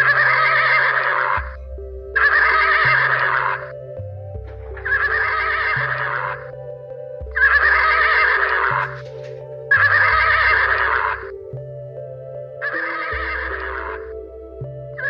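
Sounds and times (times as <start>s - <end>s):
background music of sustained chords: 0.0s - 15.0s.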